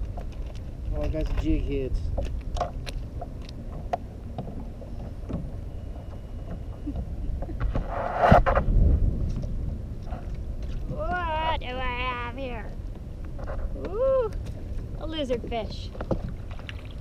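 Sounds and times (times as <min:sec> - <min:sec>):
water lapping against kayak hull: 0:00.0 - 0:17.0
wind rumble on microphone: 0:00.0 - 0:17.0.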